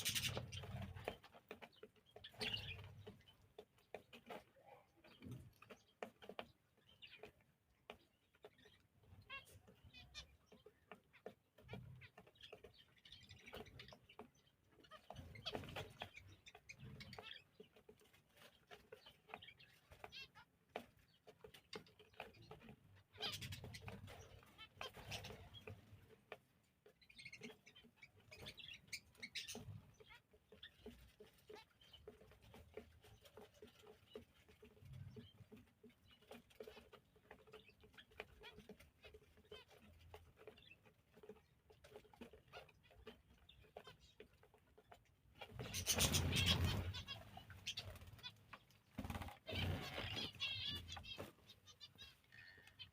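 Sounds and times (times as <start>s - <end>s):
cage birds chirping: 0.0s - 52.9s.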